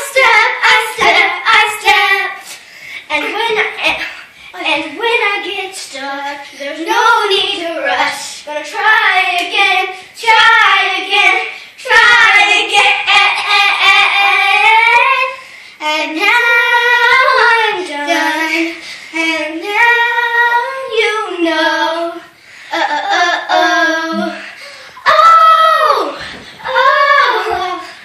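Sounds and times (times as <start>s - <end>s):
girls singing: 0.0s - 28.0s.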